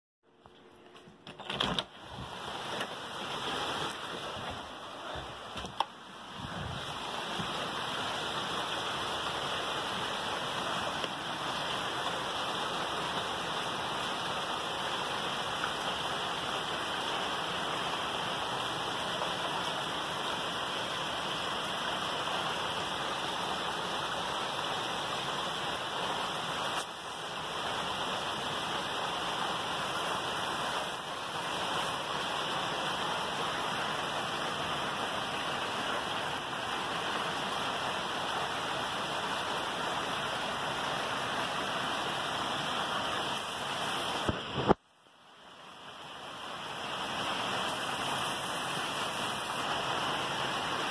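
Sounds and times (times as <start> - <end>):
steady rain falling: 0.6 - 50.9.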